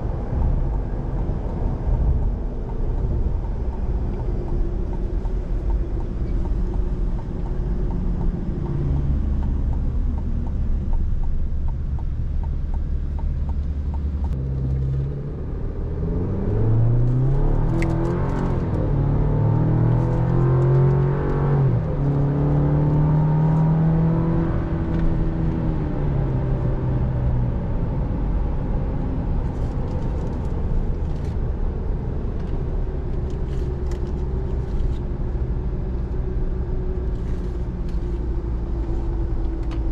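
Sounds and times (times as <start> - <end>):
car engine accelerating: 0.0 - 39.9
road and tyre rumble: 0.0 - 39.9.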